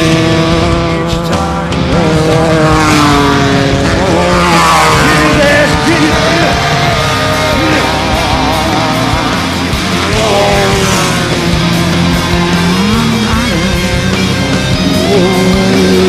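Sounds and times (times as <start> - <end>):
race vehicle engines revving: 0.0 - 16.0.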